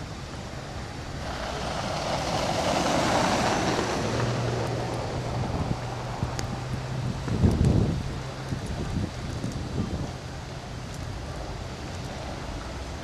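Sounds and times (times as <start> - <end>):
car tyres hissing on slush: 0.0 - 13.0
low engine hum: 0.0 - 13.0.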